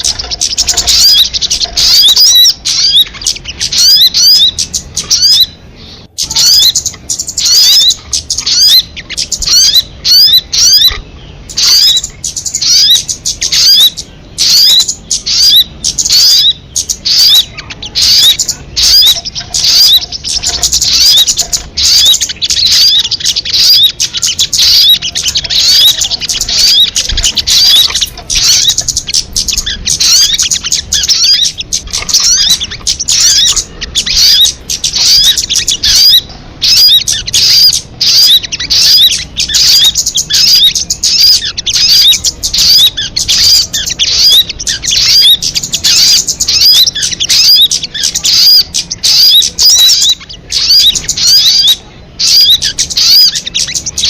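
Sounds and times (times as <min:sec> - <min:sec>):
rapid high bird chirps: 0:00.0 - 0:54.0.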